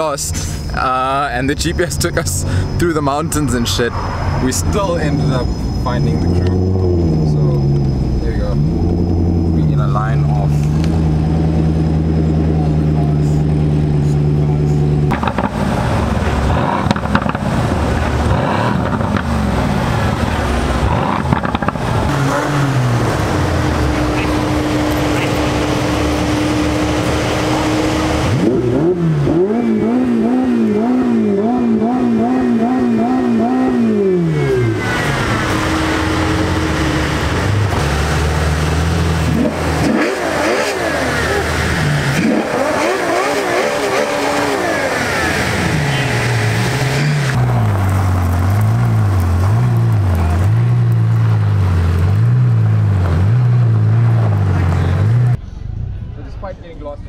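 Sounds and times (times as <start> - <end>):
sports car engines revving: 0.0 - 56.2
deeper engine note surging: 0.0 - 57.0.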